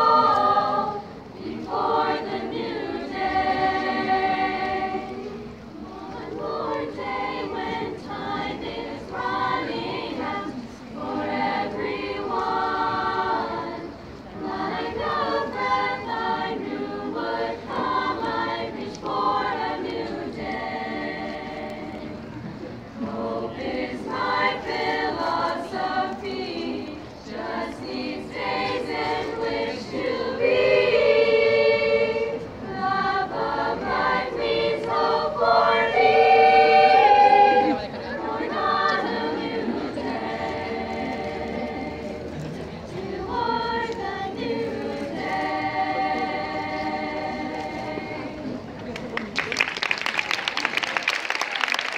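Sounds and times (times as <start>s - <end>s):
girls' choir singing unaccompanied: 0.0s - 49.4s.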